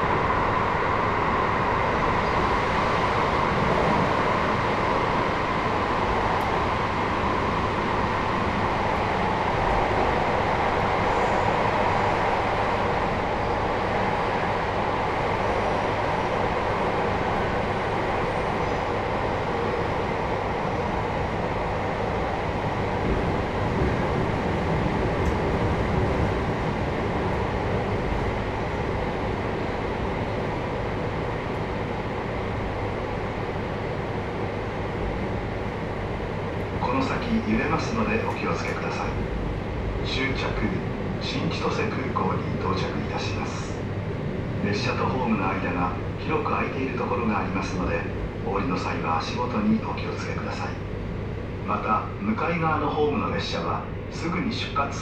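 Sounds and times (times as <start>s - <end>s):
train wheel and rail rumble: 0.0s - 55.0s.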